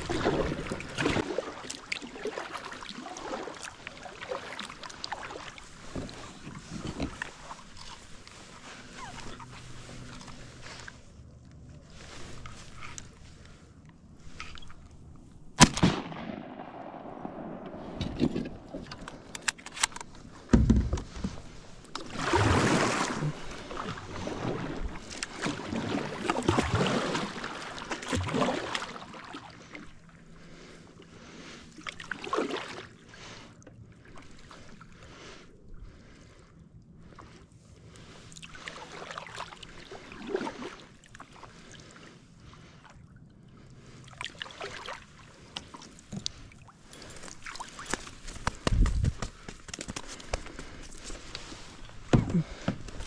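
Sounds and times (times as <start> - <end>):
kayak paddle strokes splashing: 0.0 - 15.5, 17.5 - 48.6, 50.0 - 53.0.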